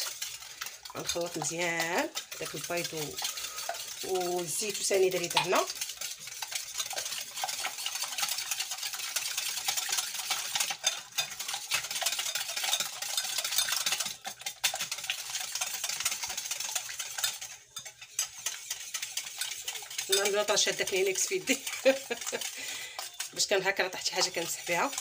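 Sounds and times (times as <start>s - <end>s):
whisk beating eggs in glass bowl: 0.0s - 25.0s.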